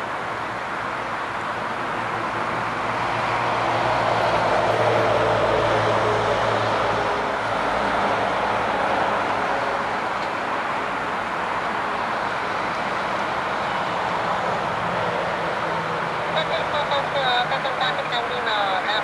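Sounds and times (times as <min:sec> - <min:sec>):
jet engine roar with whine: 0:00.0 - 0:19.0.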